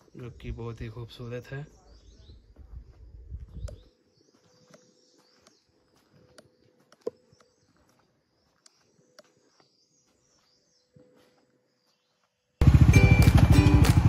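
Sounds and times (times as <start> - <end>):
faint birds chirping: 0.0 - 12.6.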